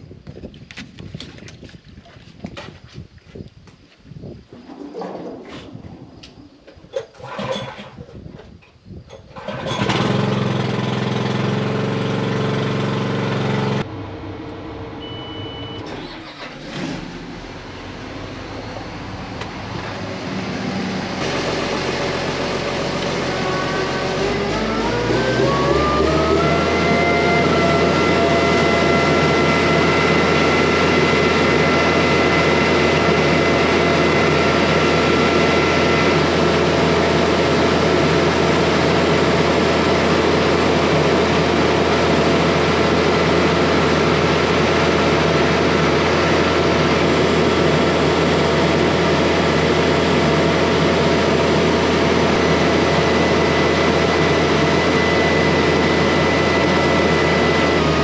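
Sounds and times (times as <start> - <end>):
engine running at high speed: 9.4 - 58.0.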